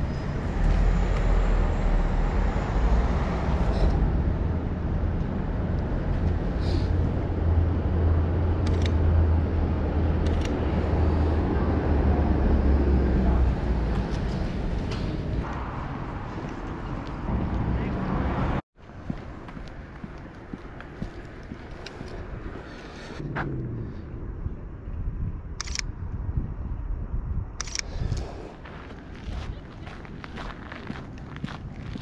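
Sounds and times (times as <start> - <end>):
road traffic rumbling: 0.0 - 32.0.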